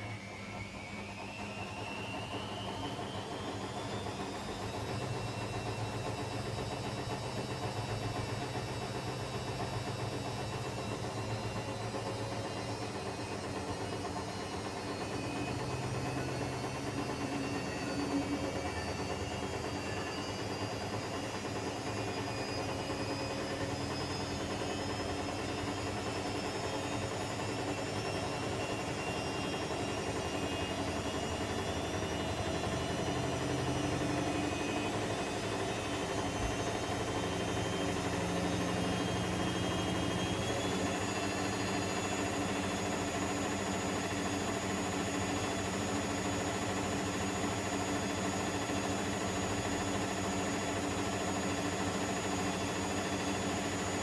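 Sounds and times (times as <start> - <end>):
washing machine spinning: 0.0 - 54.0.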